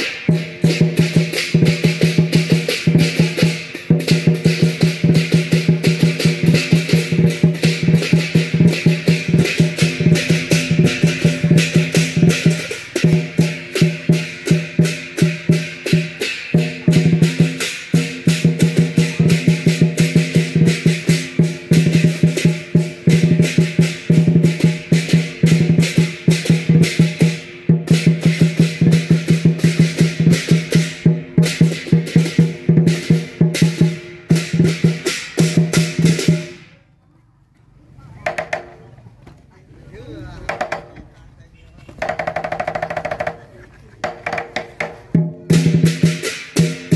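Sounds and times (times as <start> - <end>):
cymbals clashing: 0.0 - 36.8, 45.0 - 46.9
drum beaten in fast rhythm: 0.0 - 36.8, 38.1 - 39.0, 40.0 - 41.2, 41.8 - 46.9.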